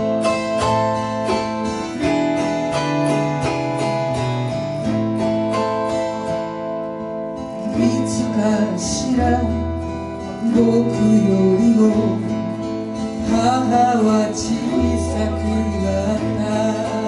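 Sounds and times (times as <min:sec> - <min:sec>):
acoustic guitar strumming: 0:00.0 - 0:17.0
autoharp strumming: 0:00.0 - 0:17.0.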